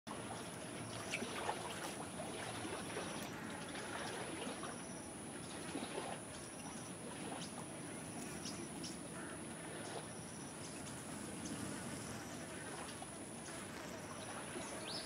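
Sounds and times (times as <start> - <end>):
small splashes: 0.1 - 15.0
water trickling: 0.1 - 15.0.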